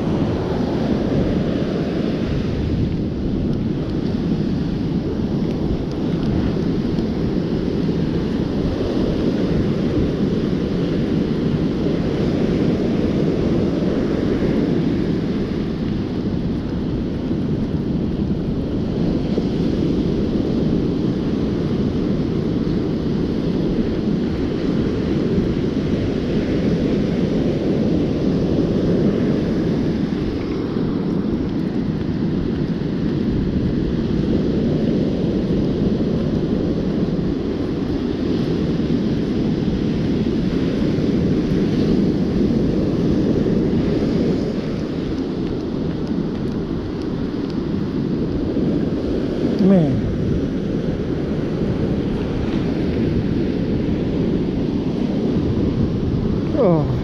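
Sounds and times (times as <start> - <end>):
ocean surf breaking on beach: 0.0 - 57.0
wind buffeting microphone: 0.0 - 57.0.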